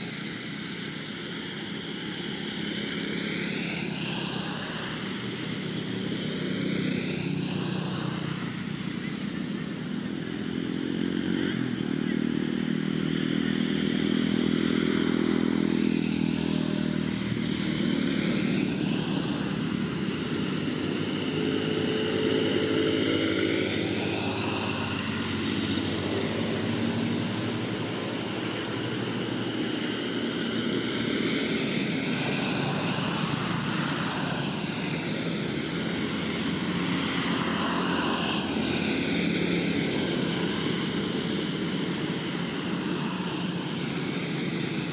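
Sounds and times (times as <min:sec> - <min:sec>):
motor engine running: 0:00.0 - 0:44.9.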